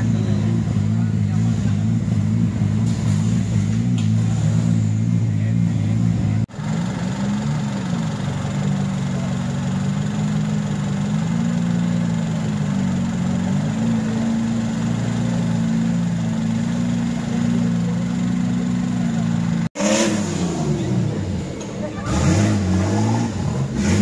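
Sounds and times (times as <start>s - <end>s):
off-road engine idling: 0.0s - 24.0s.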